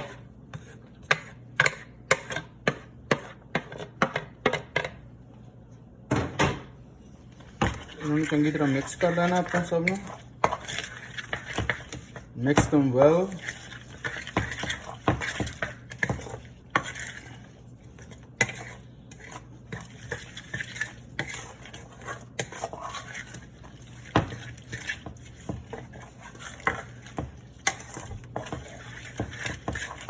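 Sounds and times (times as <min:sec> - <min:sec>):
utensil knocking and scraping bowl: 0:00.0 - 0:05.0, 0:07.2 - 0:30.0
utensil stirring dressing in bowl: 0:00.0 - 0:05.1, 0:07.0 - 0:30.0.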